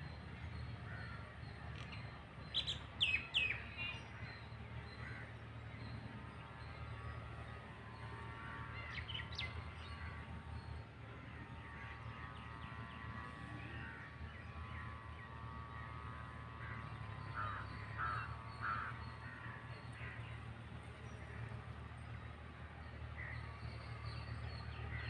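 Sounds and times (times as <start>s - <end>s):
low background hum: 0.0s - 25.0s
birds chirping: 0.1s - 25.0s.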